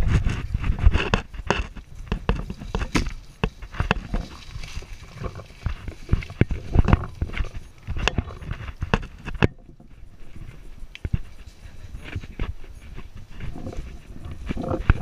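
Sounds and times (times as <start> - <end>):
brush rustling: 0.0 - 15.0
camera rubbing: 0.0 - 15.0
footsteps on gravel trail: 0.0 - 15.0.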